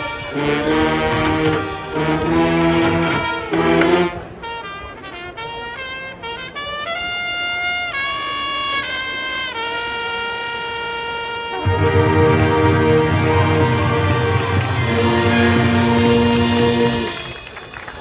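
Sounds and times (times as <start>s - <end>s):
solo brass horn melody: 0.0s - 17.6s
marching band brass chords: 0.0s - 18.0s.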